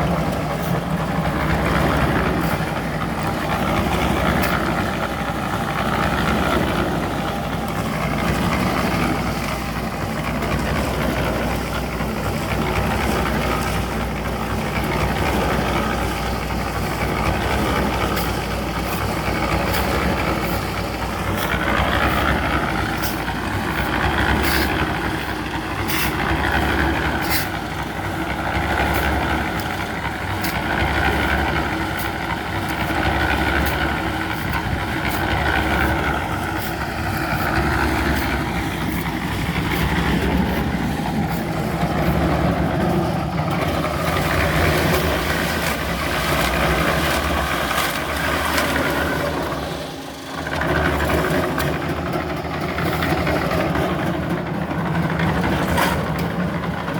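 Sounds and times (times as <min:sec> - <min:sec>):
engine pulsing low hum: 0:00.0 - 0:56.9.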